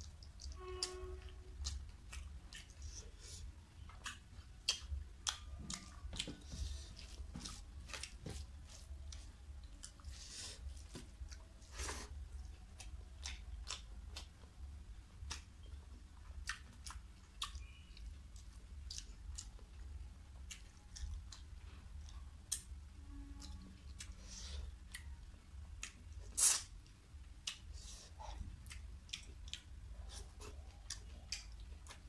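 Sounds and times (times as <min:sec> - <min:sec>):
wet chewing: 0:00.0 - 0:22.7, 0:23.4 - 0:32.0.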